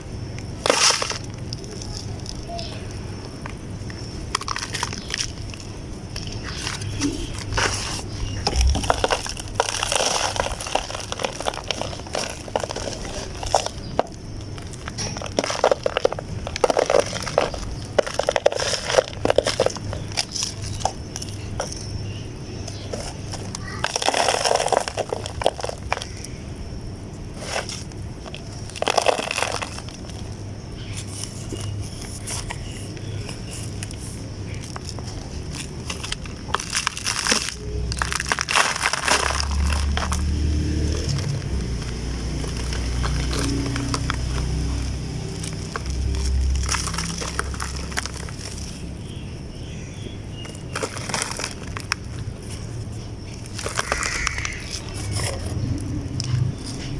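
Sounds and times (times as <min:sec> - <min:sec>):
damp chunks crunching: 0:00.0 - 0:56.9.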